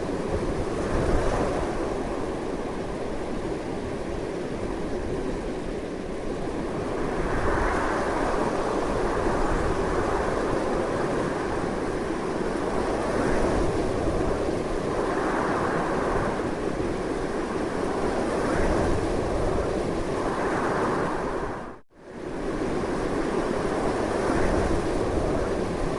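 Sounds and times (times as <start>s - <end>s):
strong gusty wind: 0.0s - 25.9s.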